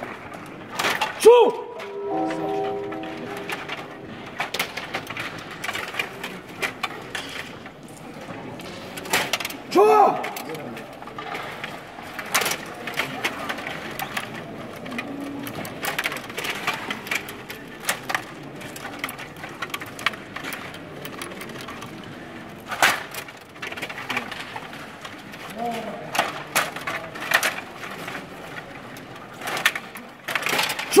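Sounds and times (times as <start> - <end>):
metal rods clicking and rattling: 0.0 - 31.0.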